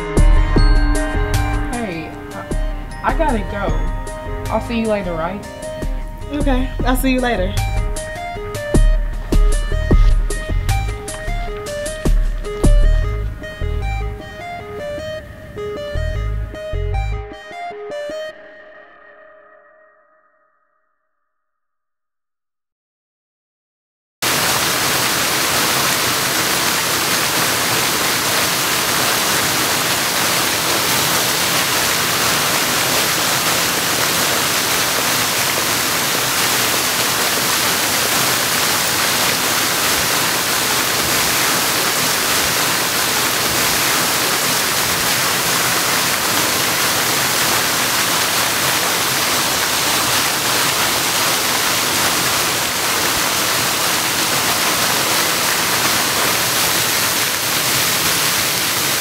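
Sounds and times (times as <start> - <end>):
fountain water splashing into basin: 0.3 - 14.4, 24.2 - 59.0.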